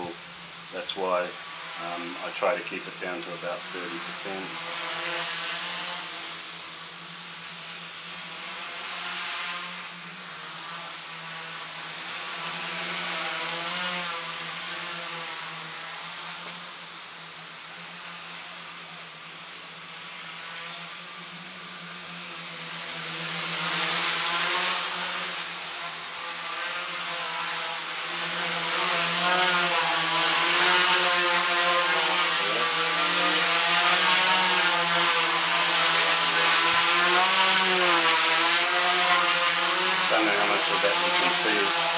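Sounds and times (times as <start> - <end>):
drone motors whirring: 0.0 - 41.9.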